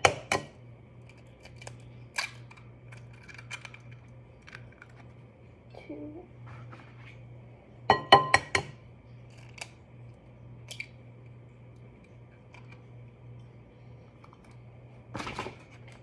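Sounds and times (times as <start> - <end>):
low appliance hum: 0.0 - 16.0.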